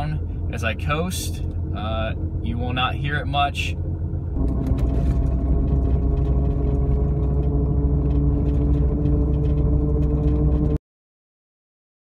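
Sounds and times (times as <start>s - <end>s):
engine and road rumble: 0.0s - 10.8s
steady driveshaft hum: 0.0s - 10.8s.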